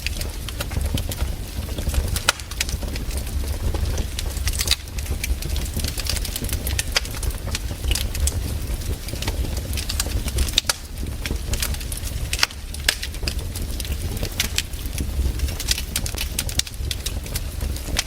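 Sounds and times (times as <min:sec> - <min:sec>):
campfire crackling and popping: 0:00.0 - 0:18.0
low fire rumble: 0:00.0 - 0:18.0.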